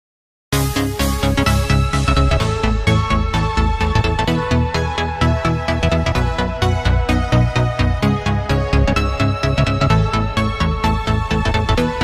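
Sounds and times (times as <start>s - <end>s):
electronic dance music: 0.6s - 12.0s.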